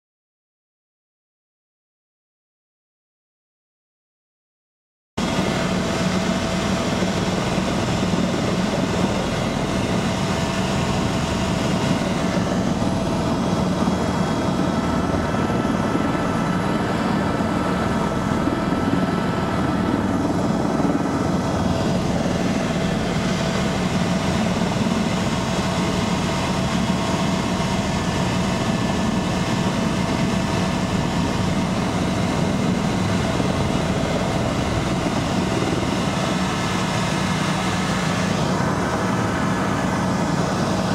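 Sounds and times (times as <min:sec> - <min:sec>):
helicopter engine and rotor: 0:05.2 - 0:40.9.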